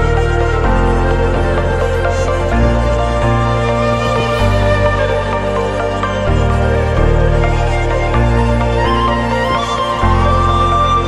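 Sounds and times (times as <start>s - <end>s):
slow instrumental music: 0.0s - 11.0s.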